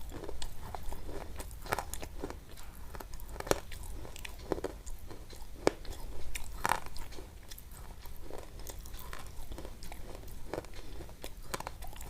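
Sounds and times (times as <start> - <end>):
chewing crunches: 0.0 - 12.0.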